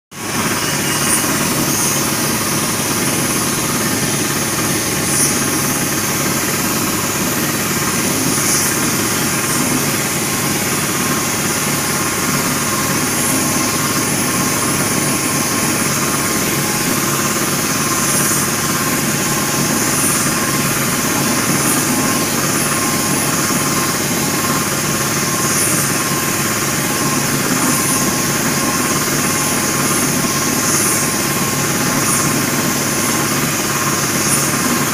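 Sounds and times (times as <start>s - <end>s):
motor hum: 0.2s - 34.9s
spray gun hissing: 0.5s - 34.9s.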